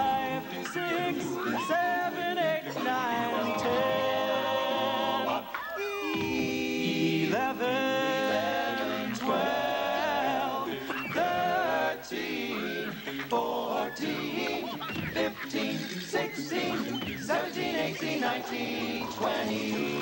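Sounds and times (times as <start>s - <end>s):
vocal group singing a cappella: 0.0s - 20.0s.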